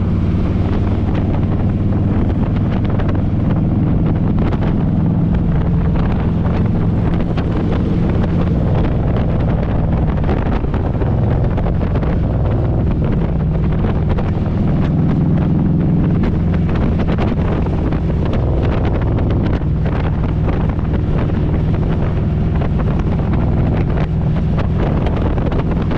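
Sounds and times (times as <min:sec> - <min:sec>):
motorcycle engine cruising: 0:00.0 - 0:25.9
wind buffeting microphone: 0:00.0 - 0:25.9.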